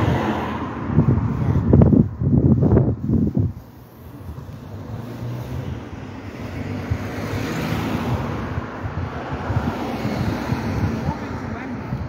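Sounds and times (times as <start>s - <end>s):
tyres hissing on road: 0.0s - 12.0s.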